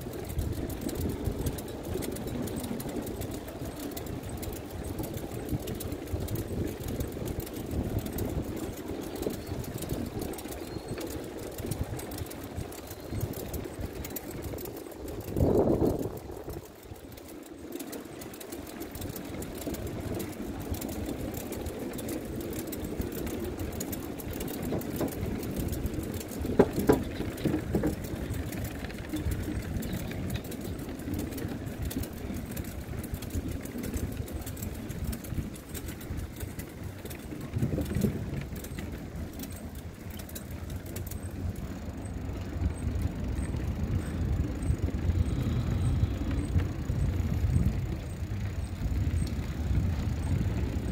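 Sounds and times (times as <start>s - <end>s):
bicycle tyres rumbling on boardwalk: 0.0s - 50.9s
wheels clattering over joints: 0.0s - 50.9s.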